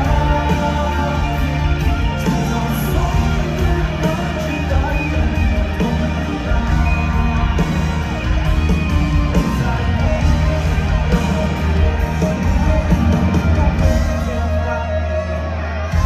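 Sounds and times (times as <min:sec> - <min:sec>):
crowd noise: 0:00.0 - 0:16.0
live band playing pop-rock: 0:00.0 - 0:16.0.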